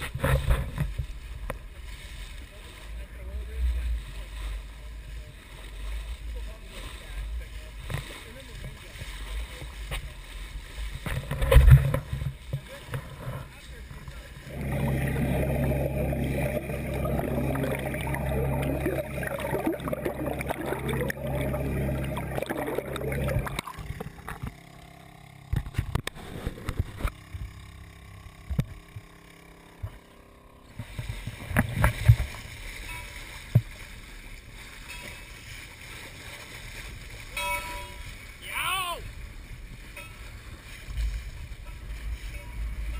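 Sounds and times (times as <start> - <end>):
water lapping: 0.0 - 42.9
water rushing along boat hull: 0.0 - 42.9.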